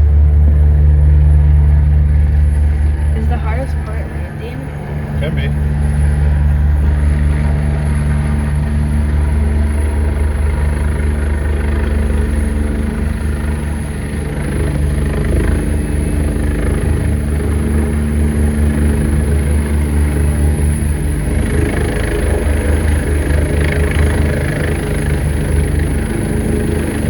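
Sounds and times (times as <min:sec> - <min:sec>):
helicopter rotor beating: 0:00.0 - 0:27.0
high whine: 0:00.0 - 0:27.0.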